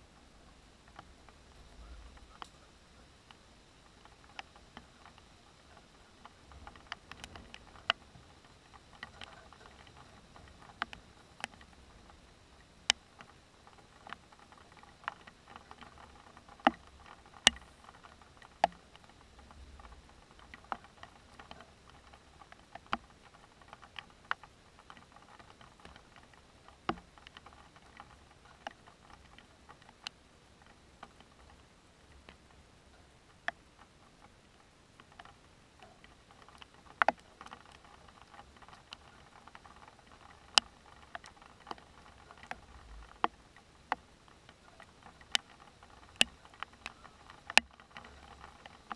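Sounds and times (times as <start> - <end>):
faint steady hiss: 0.0 - 48.9
raindrops hitting hard surface: 0.0 - 48.9.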